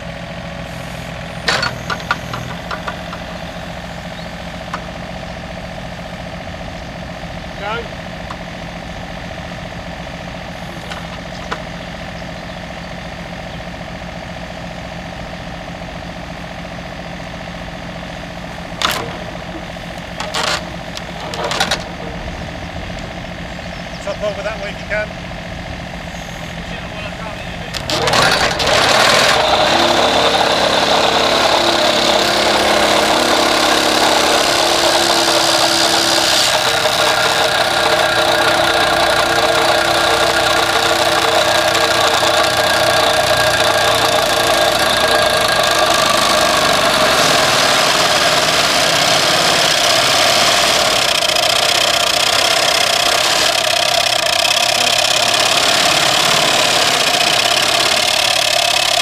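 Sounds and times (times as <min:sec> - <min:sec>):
excavator engine under load: 0:00.0 - 0:59.0
vibrating post driver: 0:00.7 - 0:13.7, 0:17.6 - 0:59.0.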